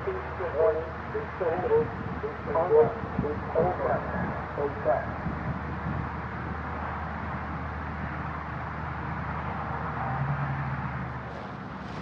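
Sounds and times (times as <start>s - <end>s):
distant highway traffic rumble: 0.0s - 12.0s
vehicle drone: 0.0s - 12.0s
wind: 0.0s - 12.0s.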